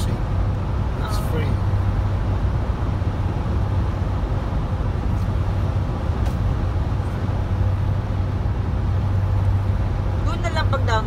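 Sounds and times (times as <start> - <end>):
car engine and tyre hum: 0.0 - 11.0.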